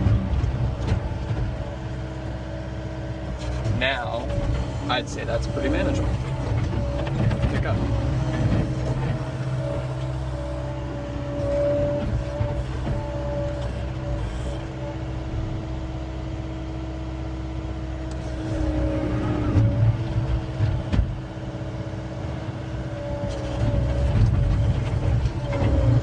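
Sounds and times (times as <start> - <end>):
hydraulic whine: 0.0 - 26.0
skid steer diesel engine: 0.0 - 26.0.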